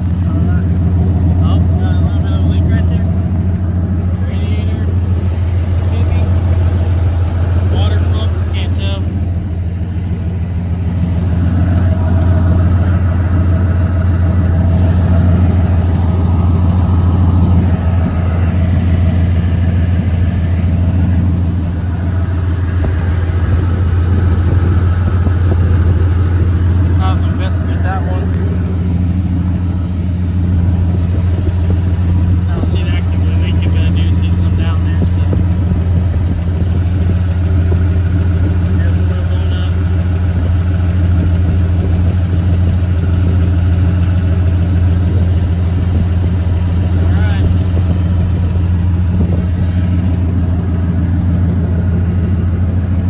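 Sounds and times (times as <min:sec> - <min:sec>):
truck engine idling: 0:00.0 - 0:53.0.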